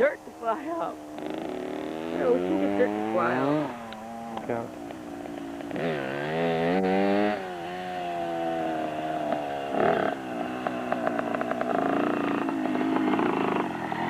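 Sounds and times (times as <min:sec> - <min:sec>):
small motorcycle engine revving: 0:00.0 - 0:14.0.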